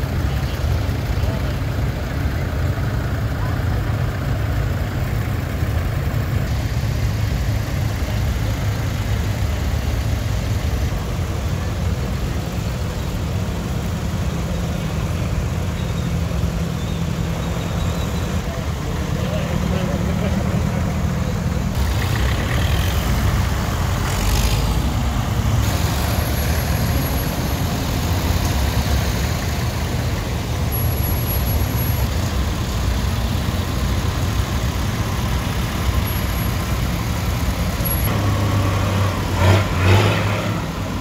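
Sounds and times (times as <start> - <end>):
tractor engines chugging: 0.0 - 41.0.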